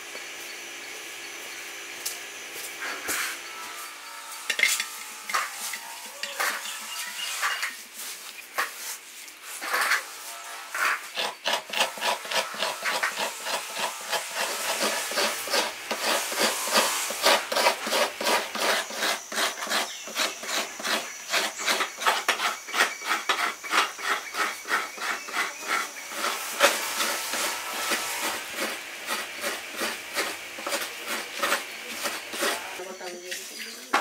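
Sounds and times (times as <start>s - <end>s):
coconut scraped on toothed blade: 3.0s - 7.8s, 9.6s - 32.9s.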